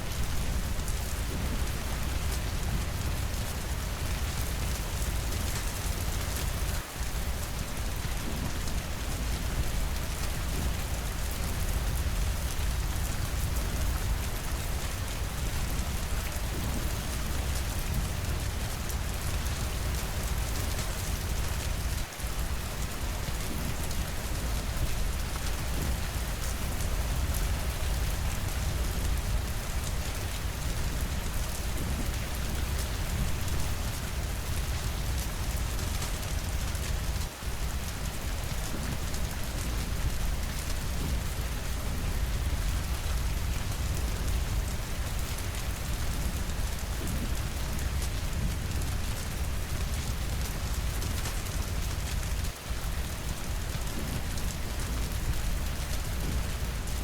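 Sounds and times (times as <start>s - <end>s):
rain on windows: 0.0s - 57.0s.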